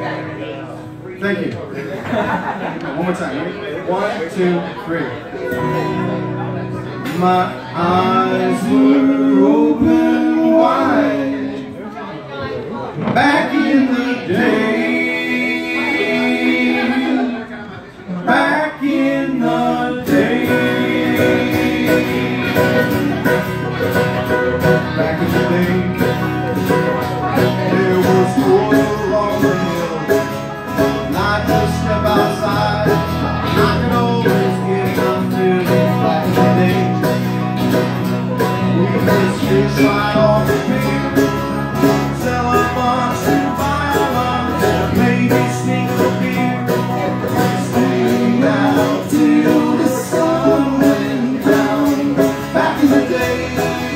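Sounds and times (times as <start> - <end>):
bluegrass band playing: 0.0 - 53.9.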